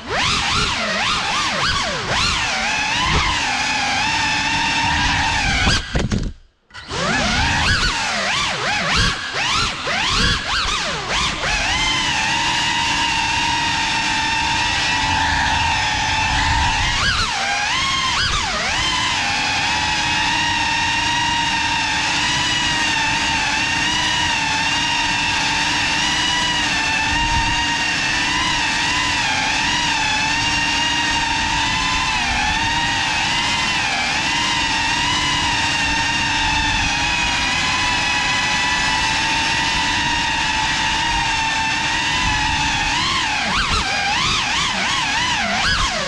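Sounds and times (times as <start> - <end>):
drone propellers whining: 0.0 - 46.0.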